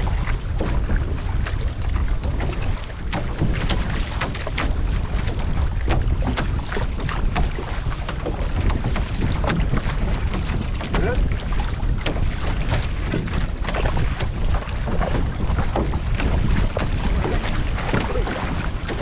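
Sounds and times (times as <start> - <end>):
paddle splashes: 0.0 - 19.0
water splashing and sloshing: 0.0 - 19.0
wind on microphone: 0.0 - 19.0.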